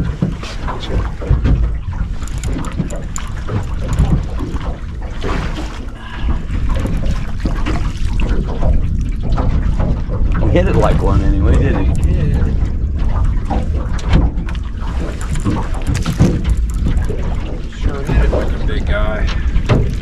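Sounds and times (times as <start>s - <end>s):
water splashing around a boat: 0.0s - 20.0s
wind buffeting the microphone: 0.0s - 20.0s.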